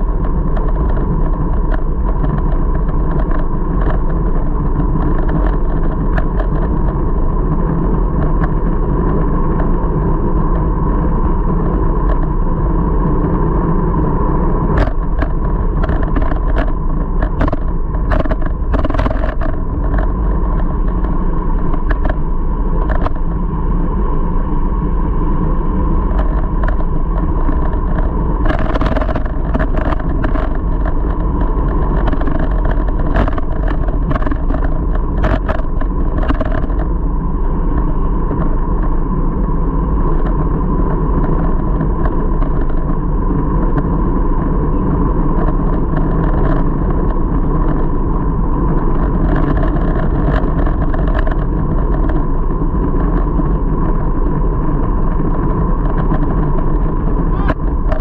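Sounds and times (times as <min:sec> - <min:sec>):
steady hum: 0:00.0 - 0:58.0
wind and road rumble: 0:00.0 - 0:58.0.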